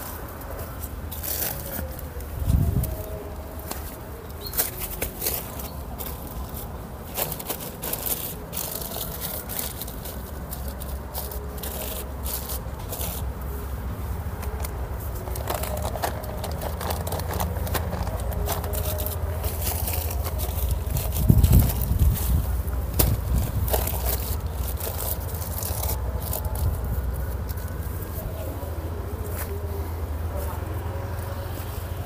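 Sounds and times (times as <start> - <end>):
plastic bags crinkling: 0.0 - 28.2.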